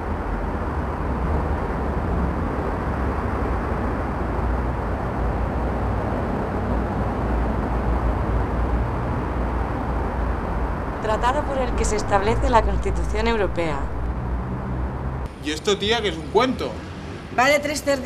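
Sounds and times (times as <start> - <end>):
outdoor ambient rumble and hiss: 0.0 - 18.0.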